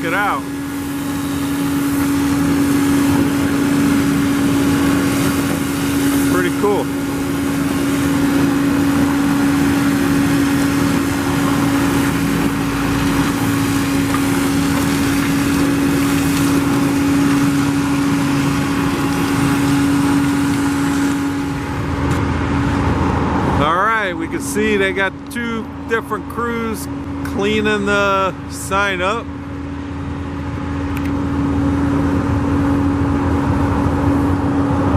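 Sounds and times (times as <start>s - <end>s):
construction machine engine droning: 0.0s - 34.9s.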